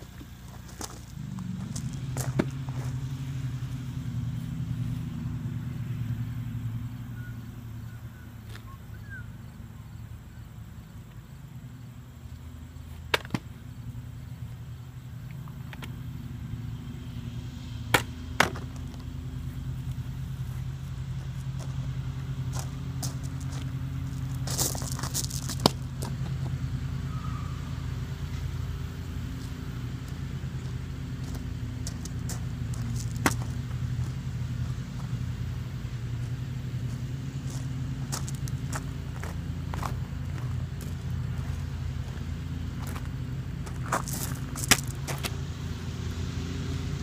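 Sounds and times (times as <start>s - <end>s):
engine droning: 0.0s - 47.0s.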